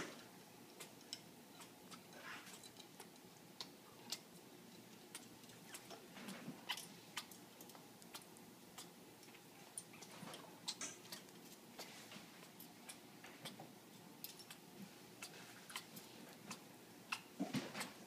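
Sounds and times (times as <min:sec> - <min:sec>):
soft low parrot sound: 0:00.0 - 0:18.0.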